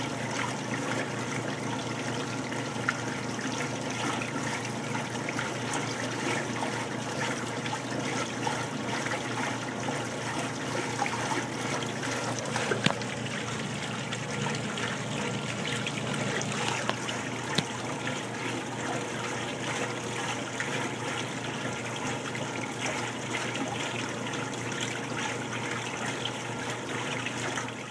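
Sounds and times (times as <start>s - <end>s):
water pouring into washing machine tub: 0.0s - 27.9s.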